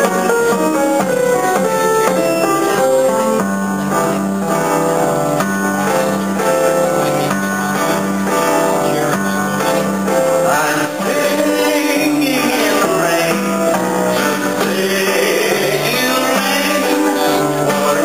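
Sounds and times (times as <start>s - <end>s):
piano and keyboard backing music: 0.0s - 18.0s.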